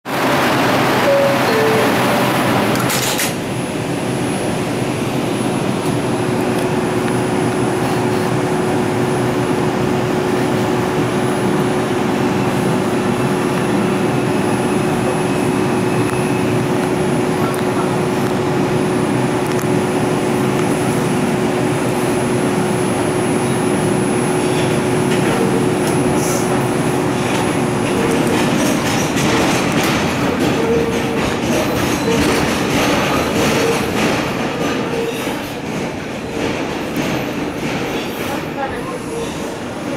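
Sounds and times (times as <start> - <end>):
subway wheels rumbling on rails: 0.1 - 39.9.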